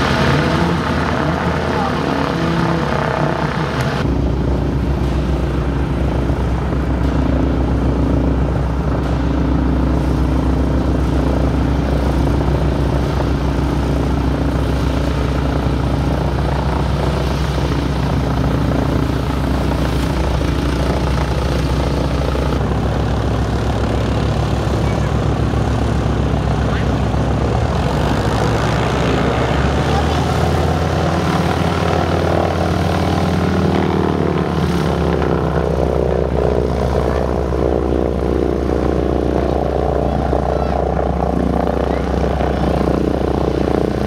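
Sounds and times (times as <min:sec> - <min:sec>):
radial aircraft engine running: 0:00.0 - 0:44.0.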